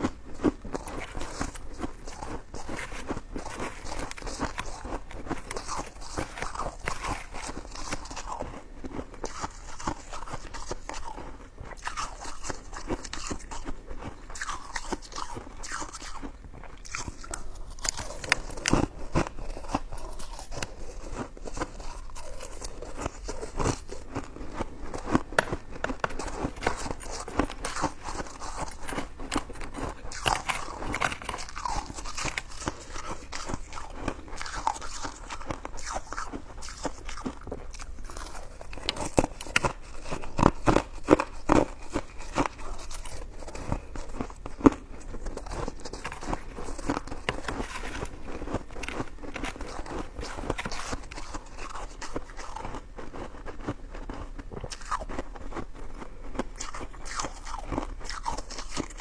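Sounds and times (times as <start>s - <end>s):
biting and chewing rice cake: 0.0s - 59.0s.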